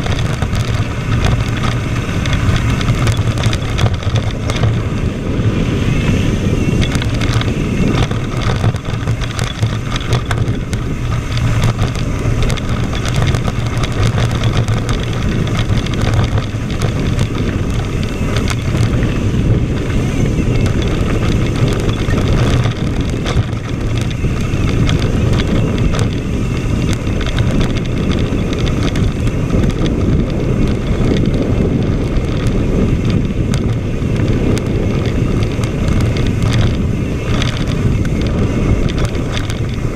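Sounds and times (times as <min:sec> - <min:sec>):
bike tyres rattling over rough ground: 0:00.0 - 0:39.9
wind noise on microphone: 0:00.0 - 0:39.9.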